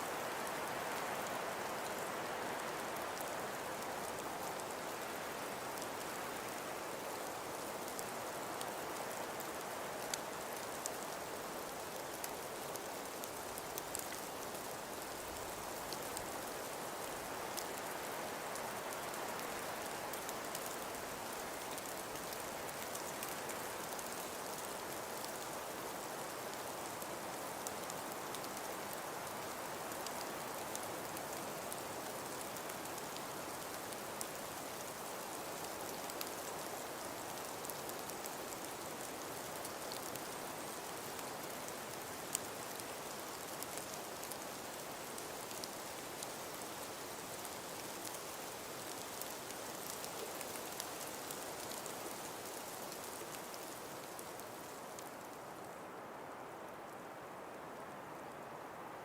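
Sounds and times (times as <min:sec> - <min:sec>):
snow patter of tiny ticks: 0:00.0 - 0:58.9.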